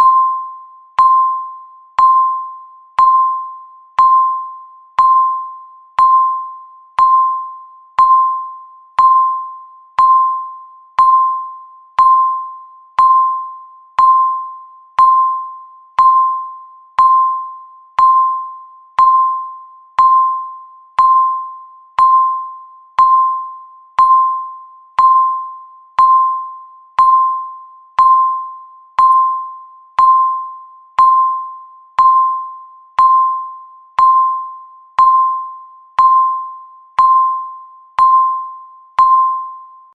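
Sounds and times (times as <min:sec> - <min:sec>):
countdown timer beep: 0:00.0 - 0:39.9.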